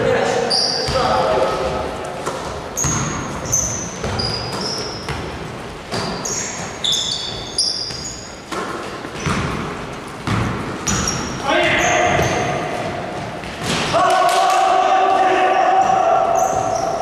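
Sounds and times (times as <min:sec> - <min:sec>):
sneakers squeaking on floor: 0:00.2 - 0:14.0, 0:15.8 - 0:17.0
basketball bouncing: 0:00.8 - 0:14.0, 0:15.8 - 0:17.0.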